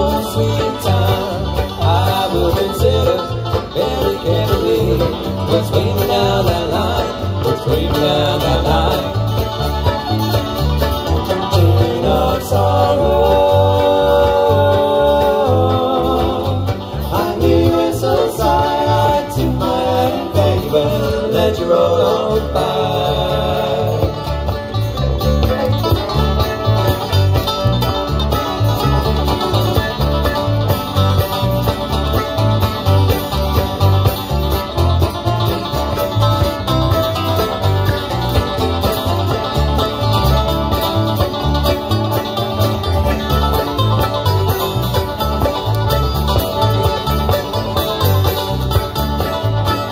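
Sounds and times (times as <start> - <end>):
acoustic guitar: 0.0 - 49.9
banjo: 0.0 - 49.9
drums: 0.0 - 49.9
electric bass: 0.0 - 49.9
fiddle: 0.0 - 49.9
mandolin: 0.0 - 49.9.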